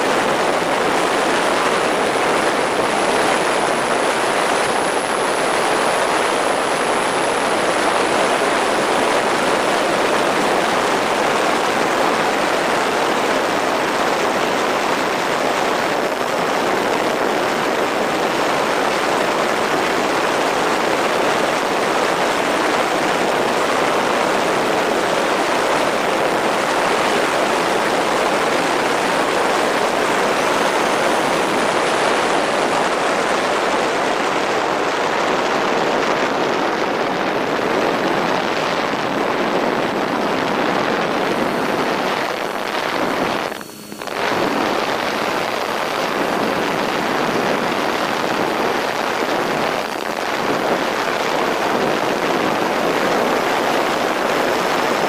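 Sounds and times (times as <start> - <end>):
airflow rush: 0.0 - 55.0
propeller noise: 0.0 - 55.0.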